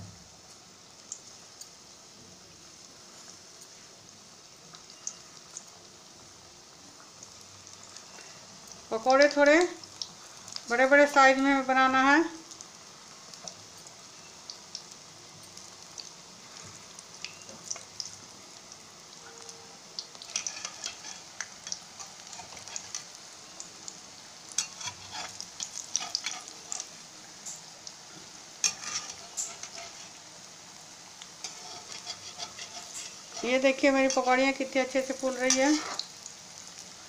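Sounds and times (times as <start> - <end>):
oil sizzling: 0.0 - 37.0.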